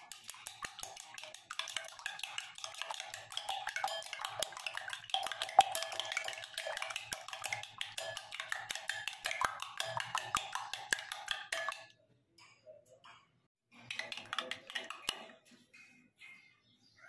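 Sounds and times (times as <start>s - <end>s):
spoon beating eggs in glass bowl: 0.0s - 16.6s.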